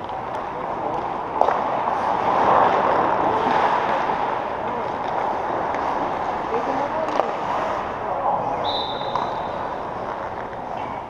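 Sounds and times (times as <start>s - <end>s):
sports arena game noise: 0.0s - 11.0s.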